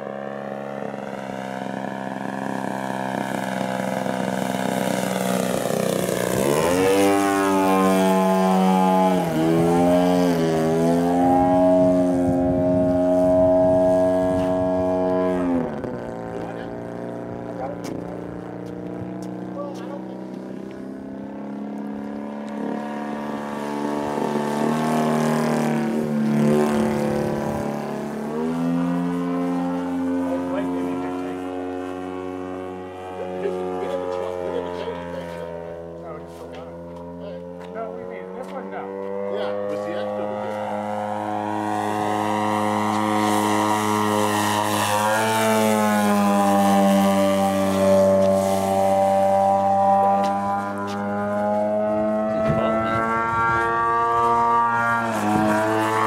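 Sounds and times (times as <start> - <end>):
model airplane engine in flight: 0.0 - 56.0.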